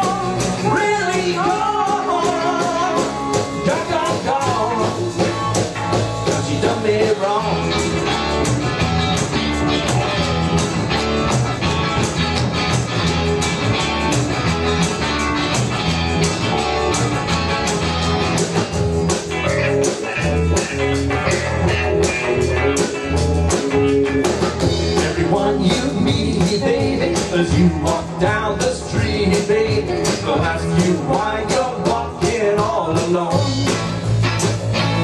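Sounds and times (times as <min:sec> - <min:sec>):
guitar lead: 0:00.0 - 0:35.0
live blues-rock band playing: 0:00.0 - 0:35.0.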